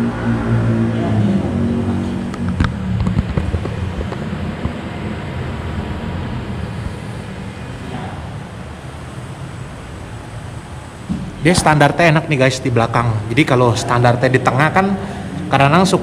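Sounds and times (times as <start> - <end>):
steady background noise: 0.0 - 16.0
vehicle engine rumble: 0.0 - 16.0.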